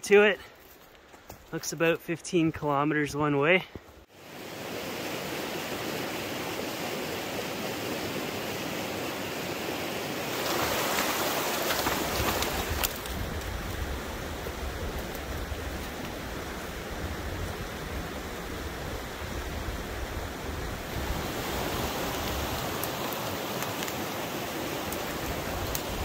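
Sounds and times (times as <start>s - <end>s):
creek rushing over rocks: 4.1s - 26.0s.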